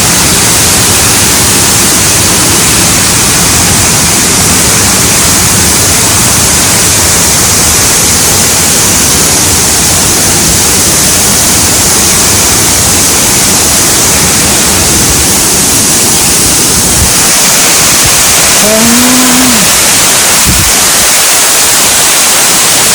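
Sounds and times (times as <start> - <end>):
small waterfall rushing: 0.0 - 22.9.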